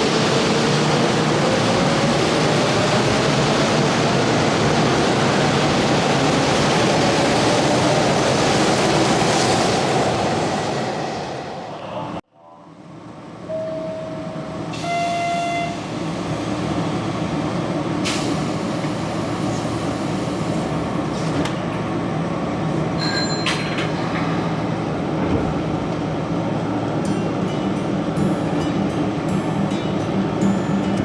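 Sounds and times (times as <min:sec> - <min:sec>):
electric train rumble and hum: 0:00.0 - 0:31.0.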